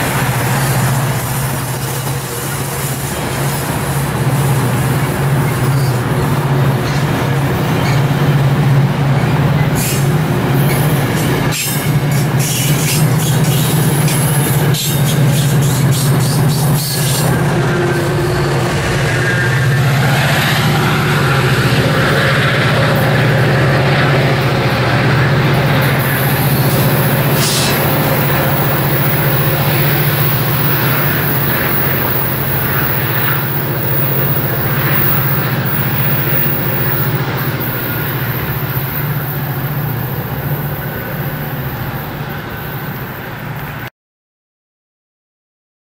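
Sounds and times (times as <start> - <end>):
diesel locomotive engine droning: 0.0 - 43.9.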